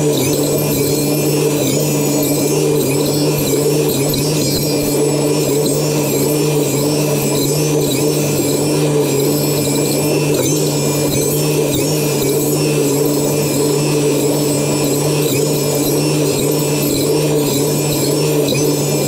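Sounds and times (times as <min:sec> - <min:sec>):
small electric motor humming: 0:00.0 - 0:19.0.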